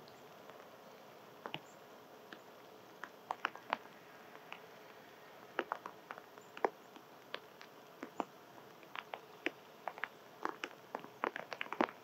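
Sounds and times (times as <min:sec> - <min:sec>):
chipmunk cracking and chewing seeds: 0:01.4 - 0:12.0.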